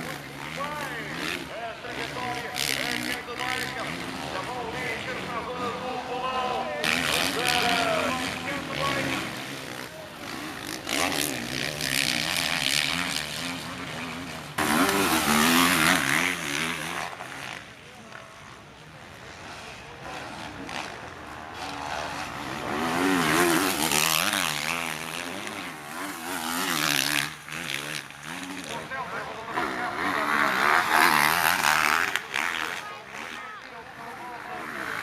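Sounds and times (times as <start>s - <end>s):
motorbike engines revving: 0.0s - 35.0s.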